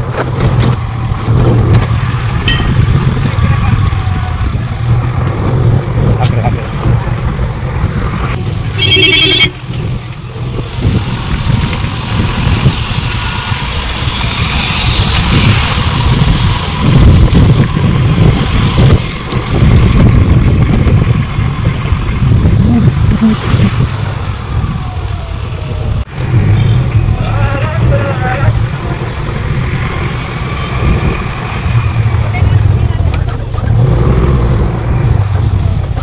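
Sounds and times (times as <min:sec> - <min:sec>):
wind buffeting microphone: 0:00.0 - 0:08.8, 0:09.6 - 0:36.0
vehicle rumbling along road: 0:00.0 - 0:36.0.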